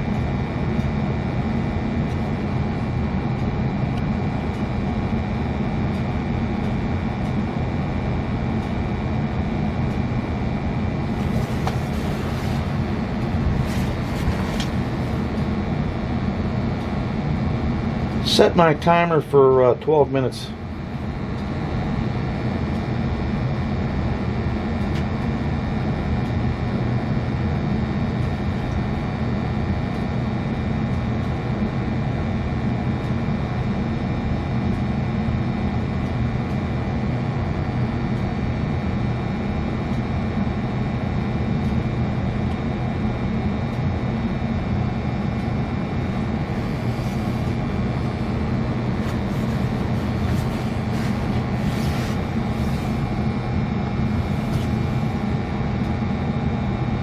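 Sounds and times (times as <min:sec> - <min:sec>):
gas burner low rumble: 0:00.0 - 0:57.0.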